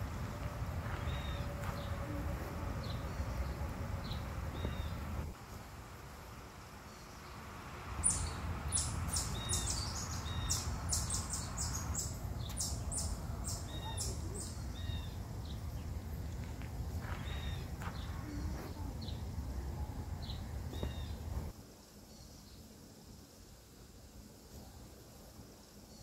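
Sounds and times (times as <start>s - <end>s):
small birds chirping: 0.0s - 5.9s, 6.5s - 22.7s.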